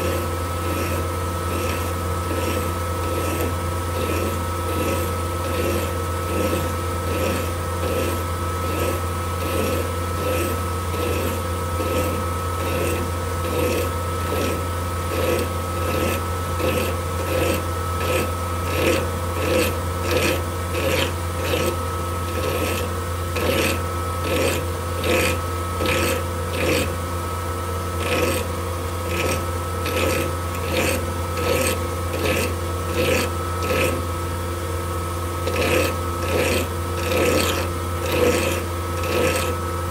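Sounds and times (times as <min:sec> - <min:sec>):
hand file rasping on metal: 0:00.0 - 0:27.0, 0:27.8 - 0:34.2, 0:35.4 - 0:39.9
lathe running hum: 0:00.0 - 0:39.9.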